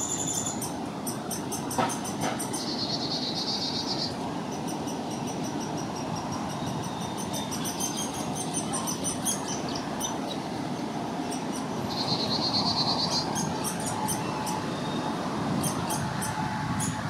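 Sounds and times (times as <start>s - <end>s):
fast dense bird chatter: 0.5s - 15.0s.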